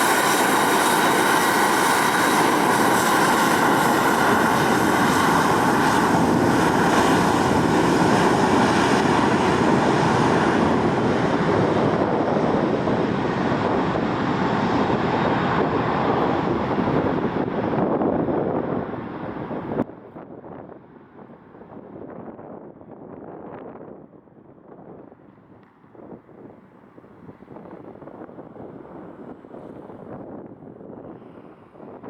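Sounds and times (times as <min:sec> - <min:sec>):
jet engines roaring with whine: 0:00.0 - 0:22.8, 0:23.4 - 0:32.0.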